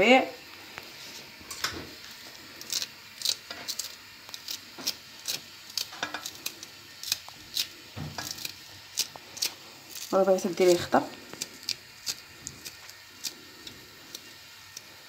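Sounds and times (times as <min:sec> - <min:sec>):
knife cutting herbs: 0:02.1 - 0:14.9.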